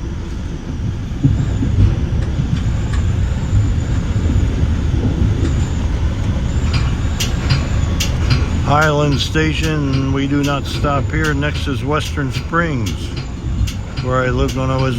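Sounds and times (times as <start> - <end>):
train wheels rumbling on track: 0.0 - 14.9.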